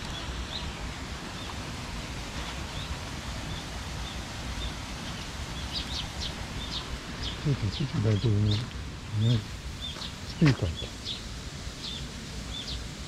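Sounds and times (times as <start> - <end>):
rain and wind hiss: 0.0 - 13.0
songbirds chirping: 0.0 - 13.0.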